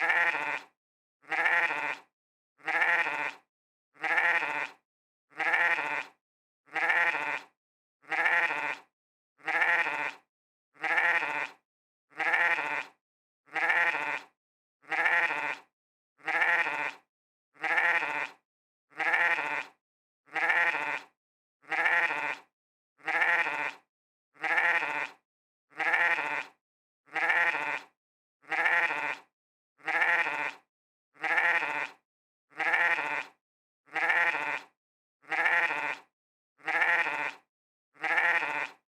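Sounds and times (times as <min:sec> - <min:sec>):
sheep bleating: 0:00.0 - 0:10.2, 0:10.8 - 0:17.0, 0:17.6 - 0:30.6, 0:31.2 - 0:38.8.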